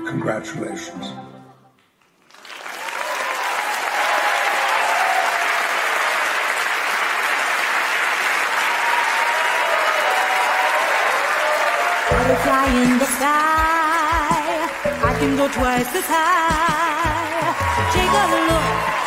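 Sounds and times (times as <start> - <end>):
audience applauding: 2.0 - 19.0.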